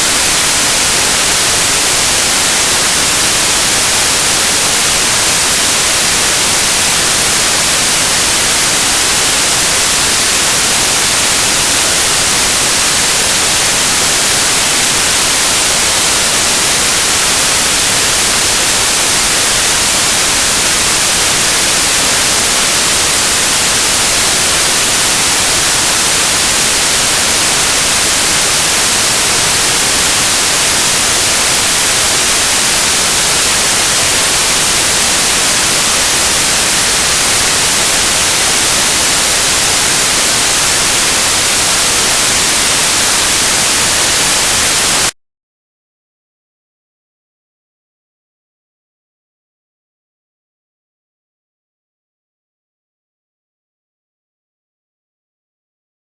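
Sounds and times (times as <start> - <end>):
loud white noise hiss: 0.0 - 45.1.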